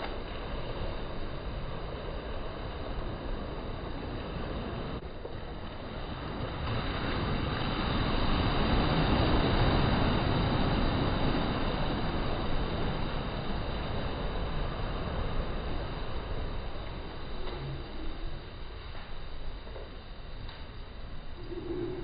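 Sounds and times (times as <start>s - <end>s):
small waves breaking on shore: 0.0s - 22.0s
wind rumbling on microphone: 0.0s - 22.0s.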